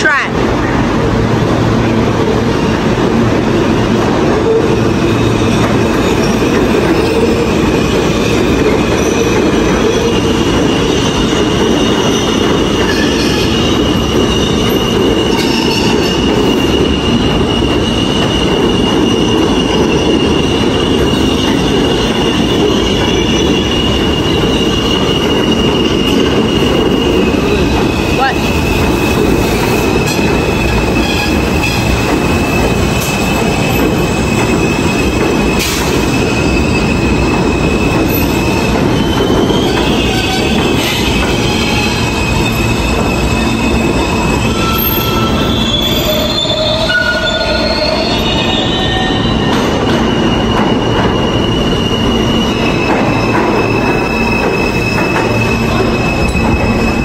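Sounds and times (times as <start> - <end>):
train wheels rumbling on rail: 0.0 - 57.0
high wheel squeal: 4.4 - 57.0.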